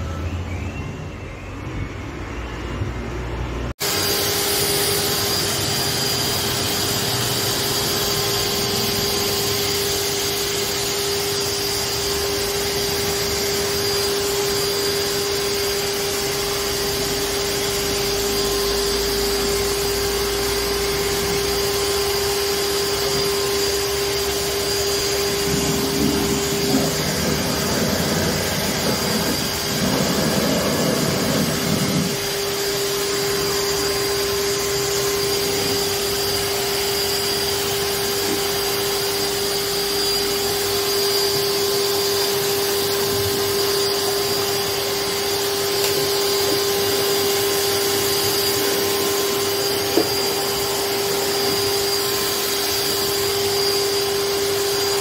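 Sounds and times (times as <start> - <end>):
vacuum cleaner motor whining: 0.0 - 55.0.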